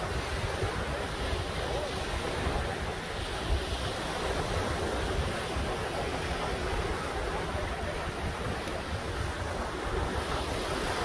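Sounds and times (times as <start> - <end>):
waves washing on sandy beach: 0.0 - 11.0
wind buffeting microphone: 0.0 - 11.0.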